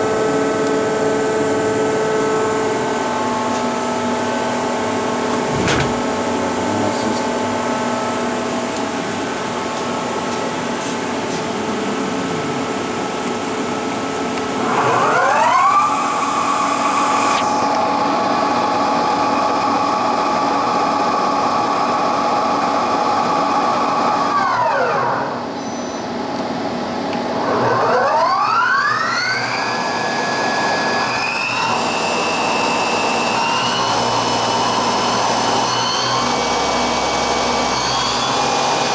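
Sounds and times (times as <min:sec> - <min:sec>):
machine hum: 0:00.0 - 0:38.9
lathe spindle whine: 0:07.2 - 0:38.9.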